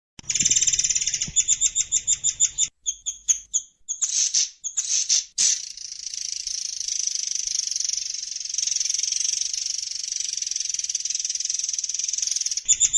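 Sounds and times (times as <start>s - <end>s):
songbird calls and trills: 0.2s - 12.9s.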